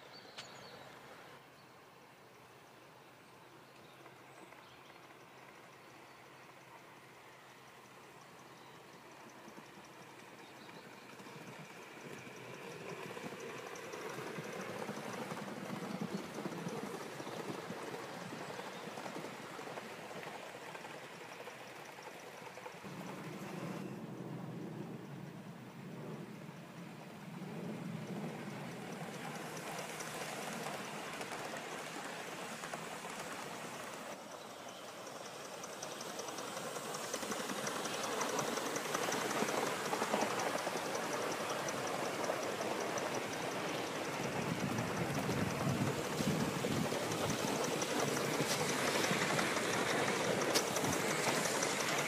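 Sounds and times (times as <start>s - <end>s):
model train mechanical chatter: 2.2s - 52.0s
steam exhaust and wheels rushing: 2.6s - 52.0s
faint fast ticking: 4.0s - 24.7s, 26.0s - 52.0s.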